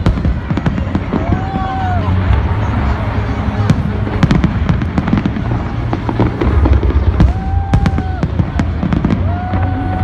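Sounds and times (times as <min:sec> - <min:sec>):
fireworks bangs and crackles: 0:00.0 - 0:10.0
low rumble of fireworks bursts: 0:00.0 - 0:10.0.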